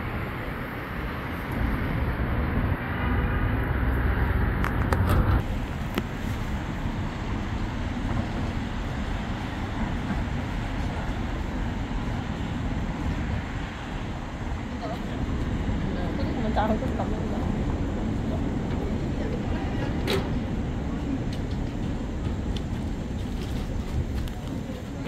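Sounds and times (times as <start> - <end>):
city street traffic: 0.0 - 25.0.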